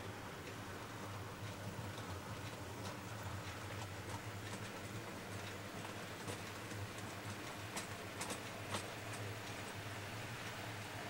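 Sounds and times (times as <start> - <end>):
model train wheels clicking: 0.0 - 11.0
steady low hum: 0.0 - 11.0.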